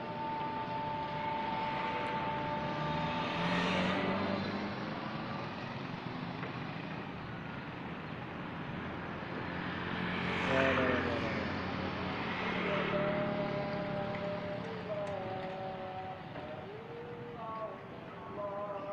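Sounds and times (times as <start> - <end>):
vehicles passing close by: 0.0 - 18.9.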